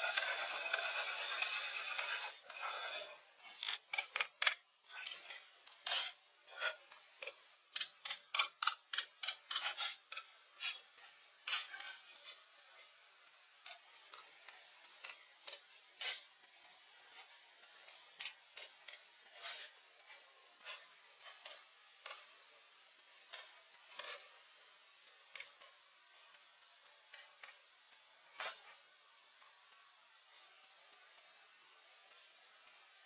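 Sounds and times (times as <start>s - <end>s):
steady hiss: 0.0s - 33.0s.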